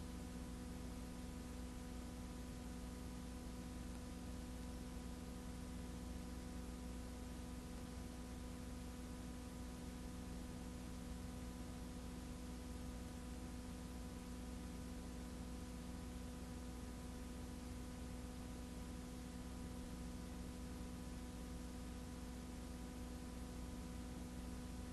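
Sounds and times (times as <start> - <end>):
faint hiss and hum: 0.0 - 24.9.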